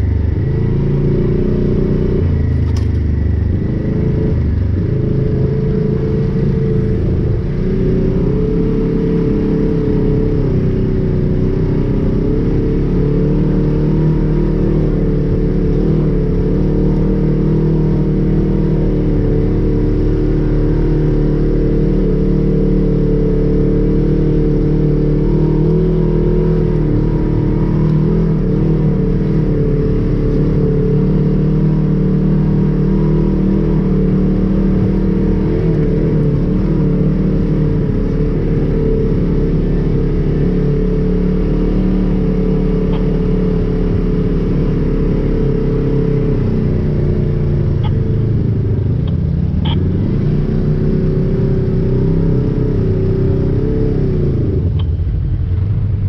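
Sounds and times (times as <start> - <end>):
vehicle engine running under throttle: 0.0 - 56.0.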